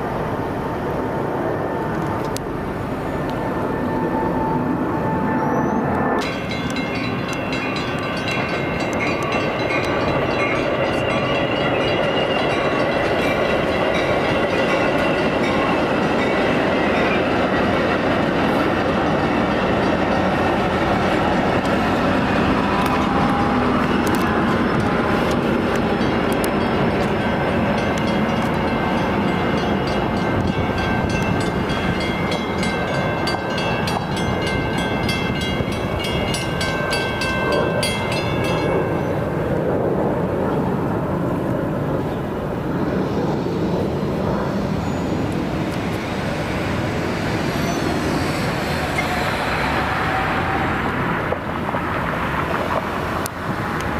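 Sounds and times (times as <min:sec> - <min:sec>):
train wheels on rails: 0:00.0 - 0:53.9.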